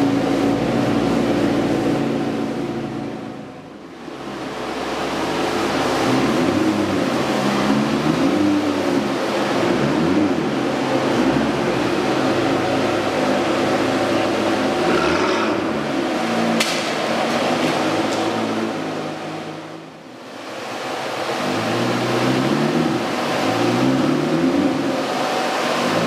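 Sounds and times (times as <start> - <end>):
car engine at low revs: 0.0 - 26.0.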